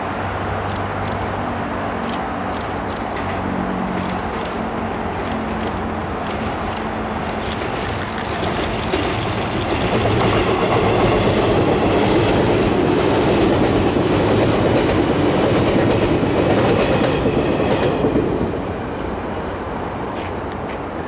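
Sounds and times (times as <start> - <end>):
train wheels rumbling on rail: 2.0 - 21.0.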